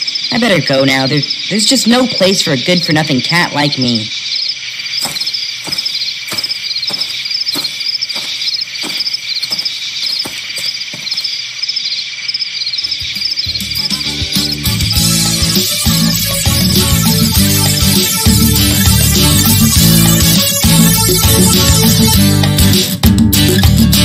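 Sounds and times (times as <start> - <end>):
crickets chirping: 0.0 - 22.2.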